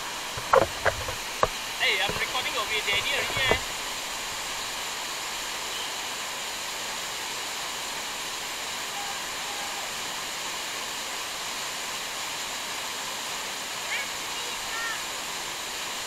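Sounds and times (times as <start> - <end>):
waterfall pouring over rocks: 0.0 - 16.0.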